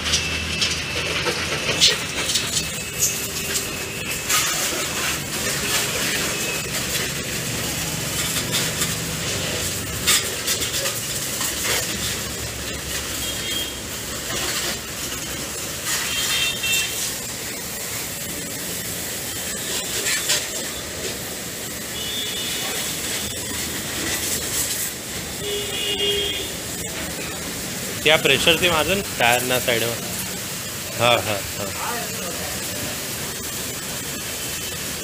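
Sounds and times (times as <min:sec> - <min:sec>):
hose water jet hissing: 0:00.0 - 0:35.0
water splashing on tile floor: 0:00.0 - 0:35.0.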